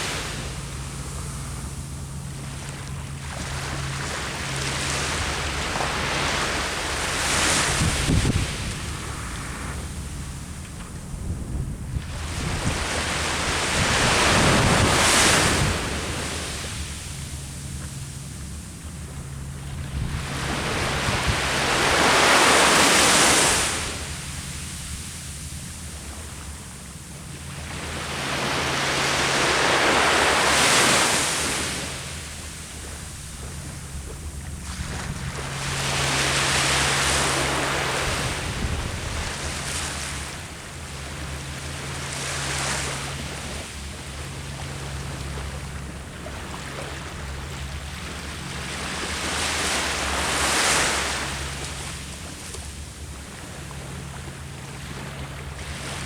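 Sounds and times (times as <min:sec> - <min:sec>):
low steady rumble: 0:00.0 - 0:56.0
ocean waves breaking on shore: 0:00.0 - 0:56.0.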